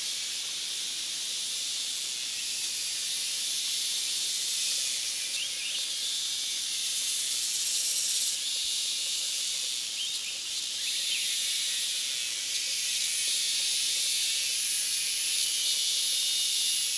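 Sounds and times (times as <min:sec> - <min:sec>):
cicadas buzzing: 0:00.0 - 0:16.9.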